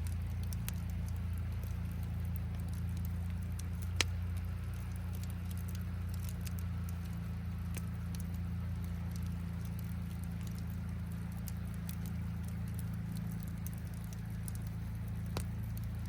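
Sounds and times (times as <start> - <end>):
campfire crackling and popping: 0.0 - 16.0
flowing river rumble: 0.0 - 16.0.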